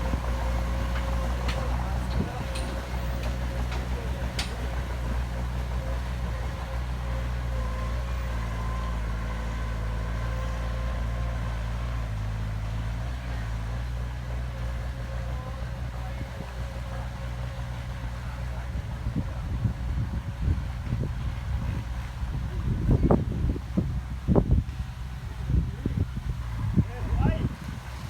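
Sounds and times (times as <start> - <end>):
heavy diesel engine humming: 0.0 - 28.0.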